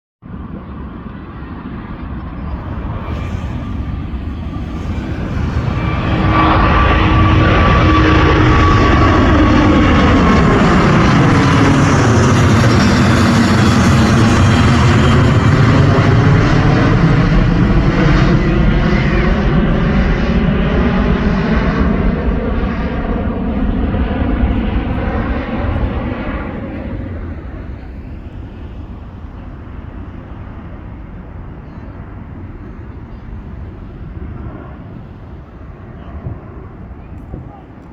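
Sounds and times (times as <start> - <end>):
jet engines rumbling with whine: 0.2 - 37.9.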